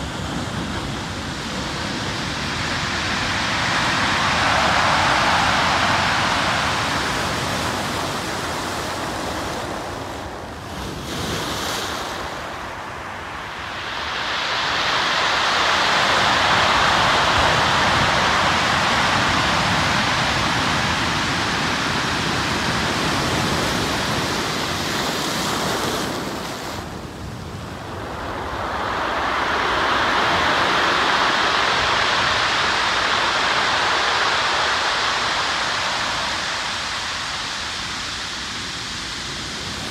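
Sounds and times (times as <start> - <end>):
waves breaking on pebble beach: 1.4 - 12.8, 13.6 - 38.2.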